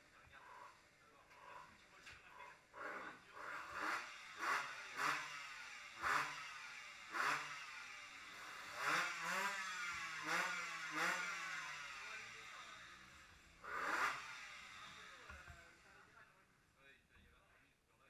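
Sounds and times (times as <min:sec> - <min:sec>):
motorbike engine revving: 0:00.0 - 0:16.2.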